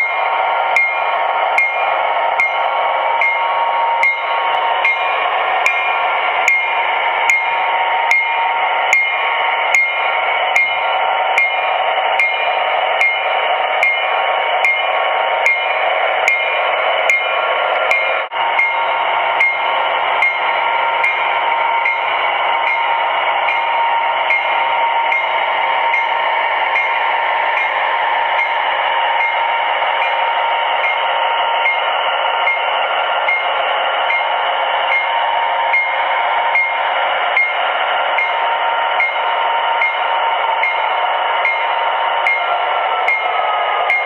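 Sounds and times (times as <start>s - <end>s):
model train hum: 0.0s - 44.0s.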